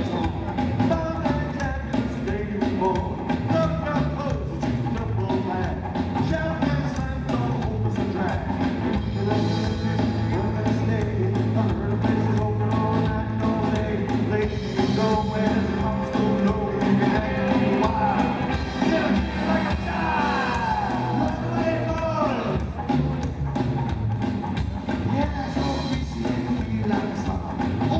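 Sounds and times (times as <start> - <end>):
person singing: 0.0 - 23.3, 25.1 - 27.9
drum kit: 0.0 - 27.9
electric guitar: 0.0 - 27.9
upright bass: 0.0 - 27.9.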